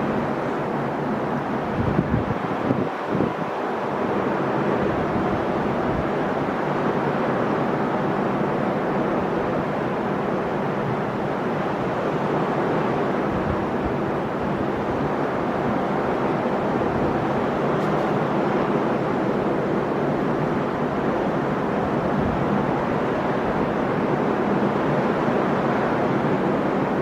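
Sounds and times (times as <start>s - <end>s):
sea waves breaking: 0.0s - 27.0s.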